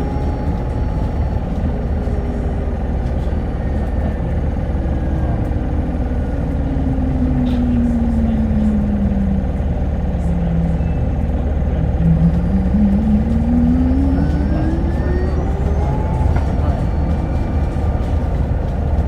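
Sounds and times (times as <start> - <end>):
bus drive whine: 0.0 - 19.0
bus interior rumble: 0.0 - 19.0.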